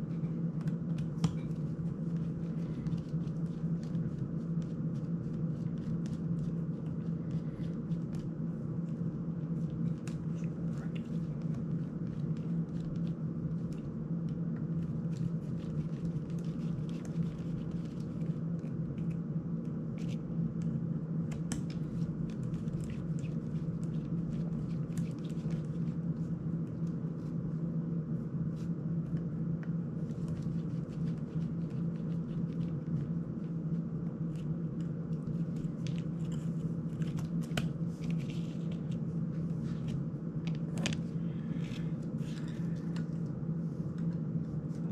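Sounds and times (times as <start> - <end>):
low hum: 0.0 - 44.9.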